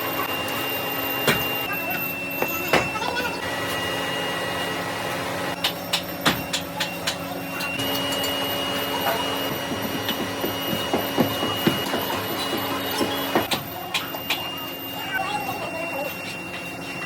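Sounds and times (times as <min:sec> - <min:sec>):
workshop machinery humming: 0:00.0 - 0:17.0.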